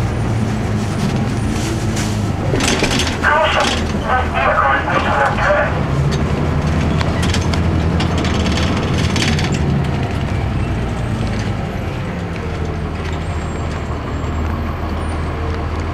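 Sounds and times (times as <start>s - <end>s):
bus body rattling and clicking: 0.0s - 15.9s
bus diesel engine droning: 0.0s - 15.9s.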